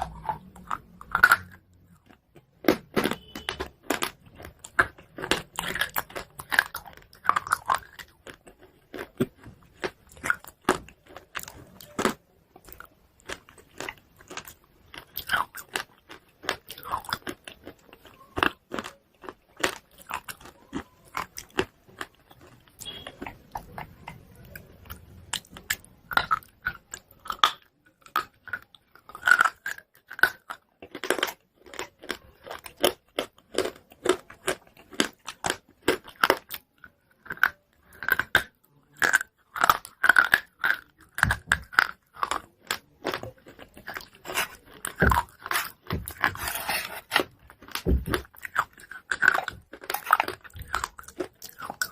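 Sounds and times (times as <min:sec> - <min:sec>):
chalk being chewed crunching: 0:00.0 - 0:51.9.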